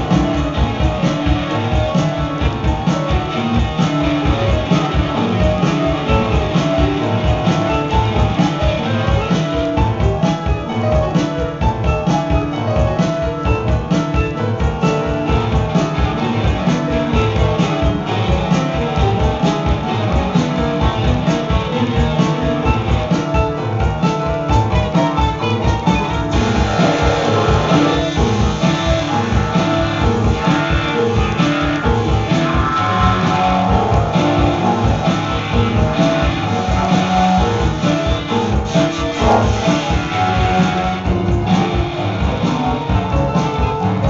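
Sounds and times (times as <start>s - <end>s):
drum beat: 0.0s - 44.0s
electric guitar: 0.0s - 44.0s
keyboards: 0.0s - 44.0s.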